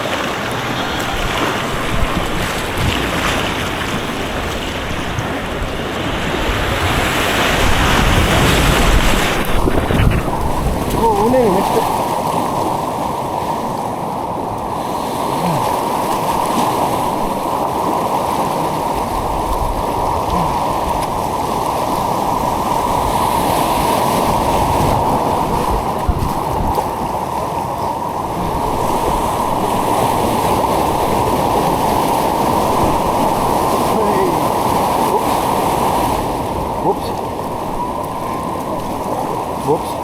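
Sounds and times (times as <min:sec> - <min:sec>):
white water rushing: 0:00.0 - 0:40.0.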